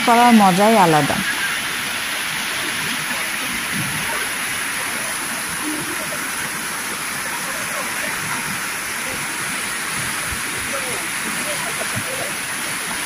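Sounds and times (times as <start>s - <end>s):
stream water splashing over boulders: 0.0s - 13.0s.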